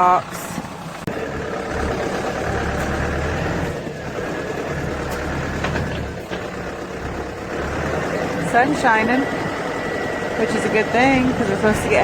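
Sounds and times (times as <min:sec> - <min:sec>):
farm machinery engine humming: 0:00.0 - 0:12.0.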